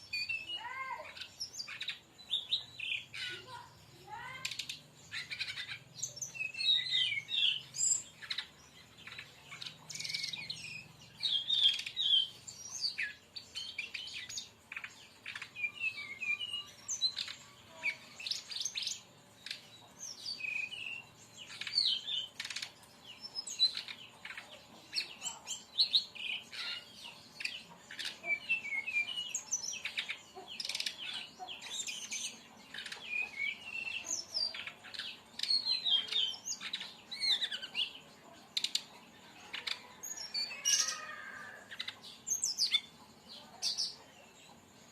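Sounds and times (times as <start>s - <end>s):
bird singing rapid chirps and trills: 0.0s - 44.9s.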